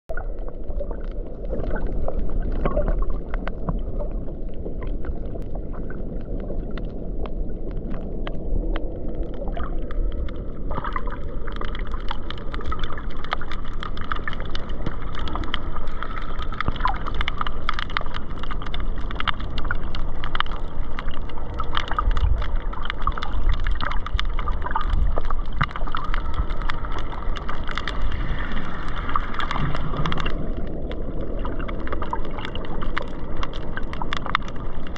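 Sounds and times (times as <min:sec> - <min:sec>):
muffled underwater rushing water: 0:00.1 - 0:34.9
small crackling clicks: 0:00.1 - 0:34.9.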